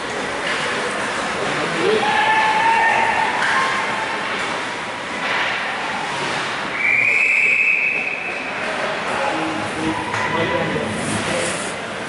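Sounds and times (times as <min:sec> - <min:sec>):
noisy rink background: 0:00.0 - 0:12.0.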